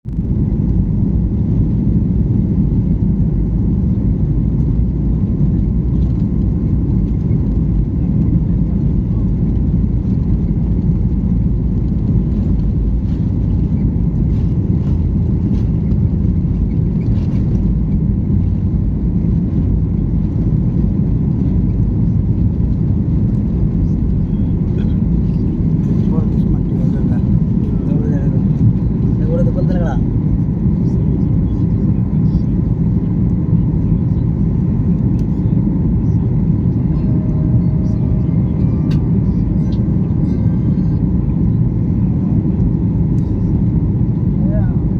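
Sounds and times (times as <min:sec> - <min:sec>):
airliner cabin drone: 0:00.1 - 0:44.9.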